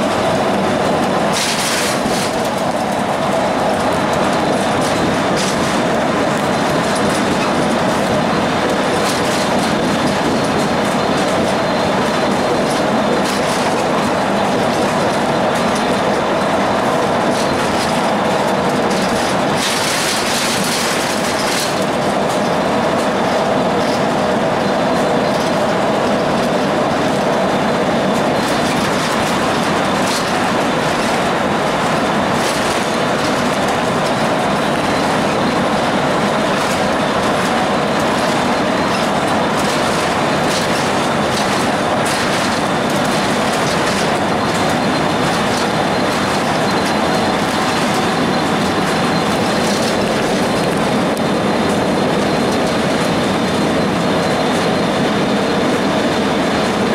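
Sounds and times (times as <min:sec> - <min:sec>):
diesel bus engine running: 0:00.0 - 0:56.9
road and wind noise: 0:00.0 - 0:56.9.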